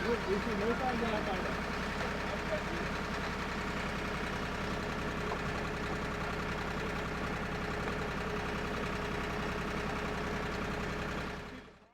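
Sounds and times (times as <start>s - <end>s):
drilling rig engine running: 0.0s - 9.9s.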